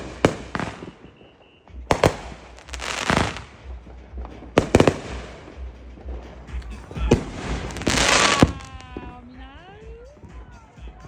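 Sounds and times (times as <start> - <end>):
fireworks bangs: 0.0 - 9.4
fireworks crackle: 0.0 - 10.5.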